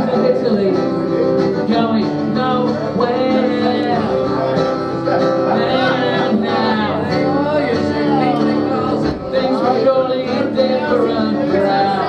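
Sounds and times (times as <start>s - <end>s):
acoustic folk-country guitar music: 0.0s - 12.0s.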